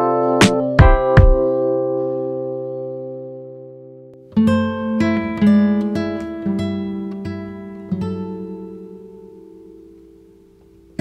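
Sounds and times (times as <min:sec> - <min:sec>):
keyboard instrument notes and chord: 0:00.0 - 0:11.0.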